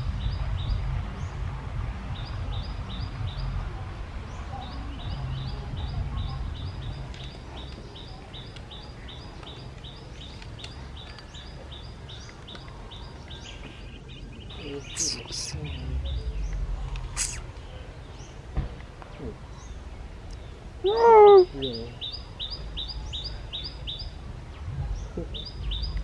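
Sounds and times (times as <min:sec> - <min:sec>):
steady low rumble: 0:00.0 - 0:26.0
bird chirping: 0:04.3 - 0:18.4, 0:19.1 - 0:26.0.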